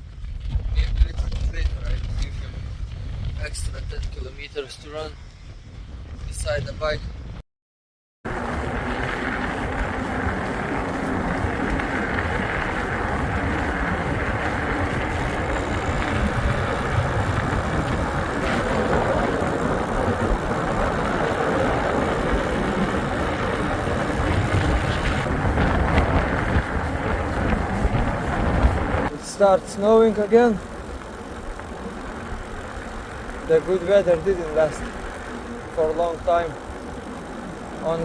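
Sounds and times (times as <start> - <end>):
wind buffeting microphone: 0.0 - 7.4, 8.3 - 38.0.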